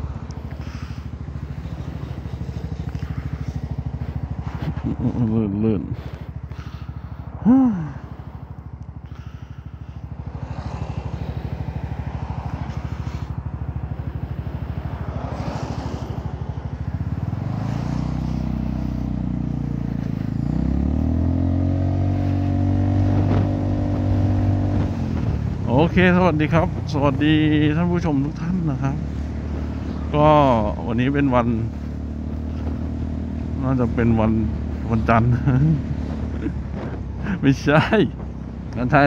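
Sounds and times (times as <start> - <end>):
scooter engine idling and revving: 0.0 - 39.0.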